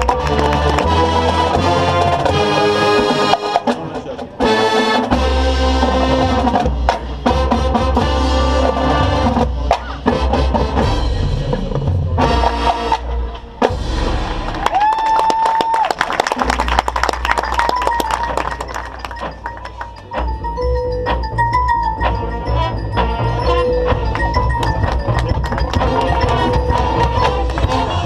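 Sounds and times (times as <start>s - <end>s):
drum and percussion hits: 0.0s - 8.2s, 8.8s - 28.0s
marching band playing: 0.0s - 28.0s.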